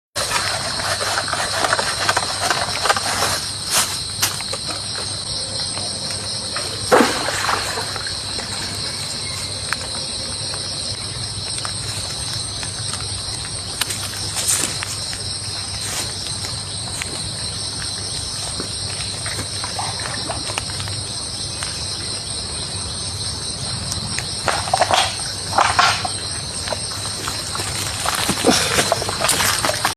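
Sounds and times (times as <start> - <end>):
insect chorus trilling: 0.2 - 29.9.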